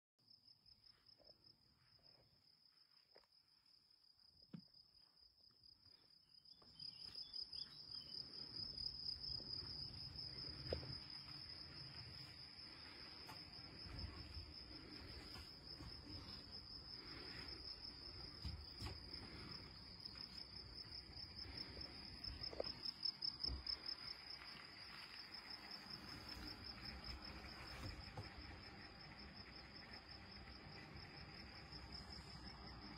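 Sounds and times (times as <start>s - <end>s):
crickets chirping: 0.2s - 32.9s.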